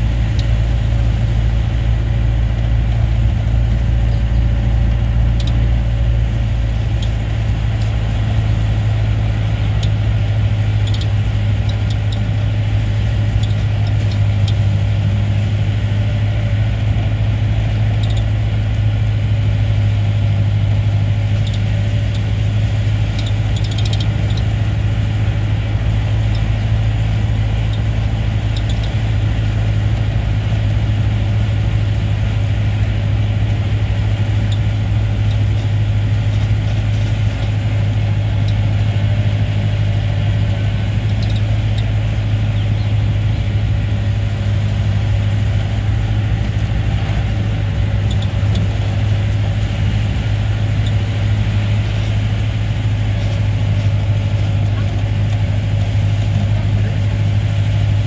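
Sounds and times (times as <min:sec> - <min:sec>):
vehicle engine drone: 0:00.0 - 0:58.0.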